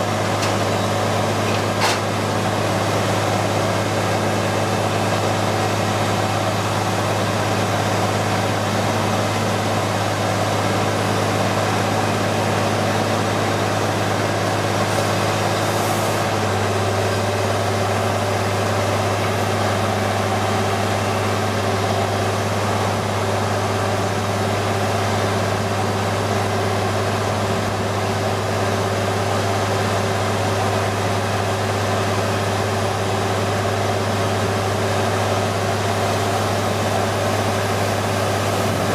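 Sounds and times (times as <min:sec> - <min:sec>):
drilling rig engine hum: 0:00.0 - 0:38.9.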